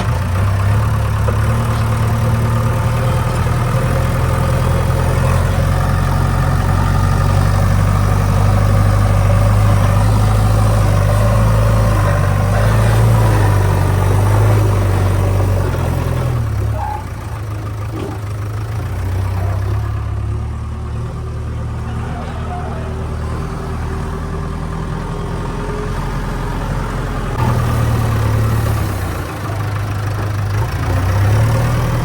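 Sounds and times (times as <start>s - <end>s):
backhoe diesel engine running: 0.0s - 32.0s.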